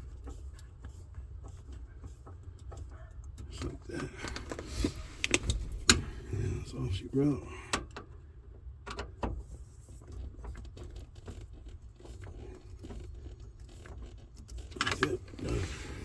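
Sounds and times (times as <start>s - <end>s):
clicks taps and rustling of tools: 0.0s - 6.1s, 7.7s - 15.5s
low steady hum: 0.0s - 16.0s.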